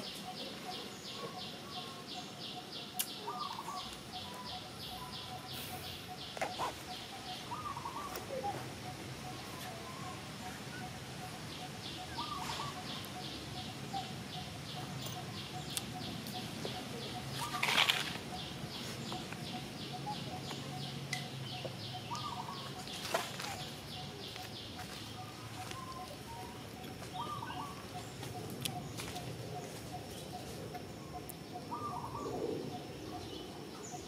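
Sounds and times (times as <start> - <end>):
high pulsing chirp: 0.0 - 34.0.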